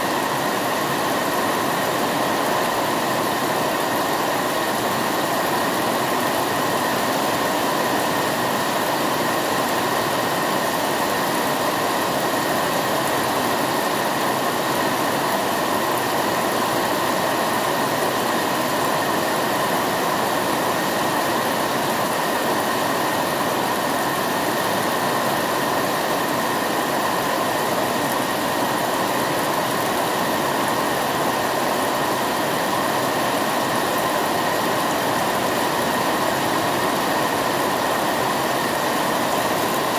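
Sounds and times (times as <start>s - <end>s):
heavy rain on foliage: 0.0s - 39.9s
water pouring off roof: 0.0s - 39.9s.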